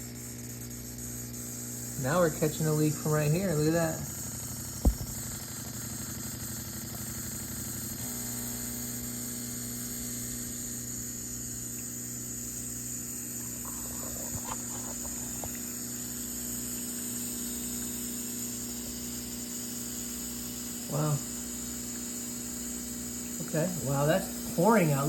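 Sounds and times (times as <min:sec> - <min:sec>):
espresso machine pump humming: 0:00.0 - 0:25.0.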